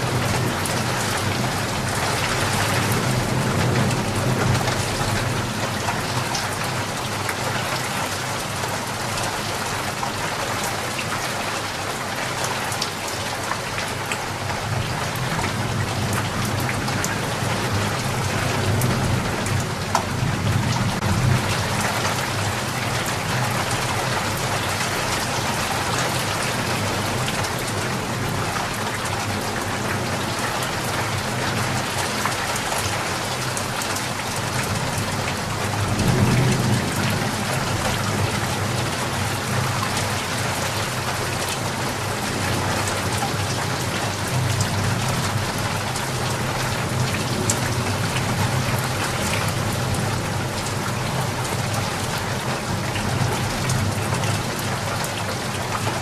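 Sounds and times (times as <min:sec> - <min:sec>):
heavy rain pattering: 0:00.0 - 0:56.0.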